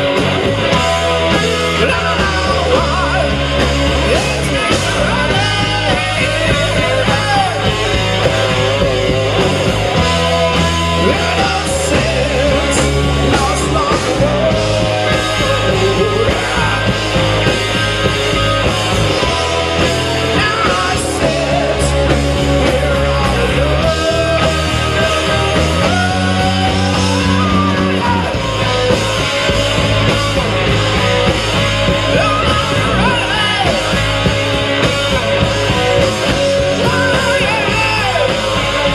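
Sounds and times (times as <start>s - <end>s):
person singing: 0.0s - 17.7s, 19.2s - 29.6s, 35.7s - 38.9s
live rock band playing: 0.0s - 38.9s.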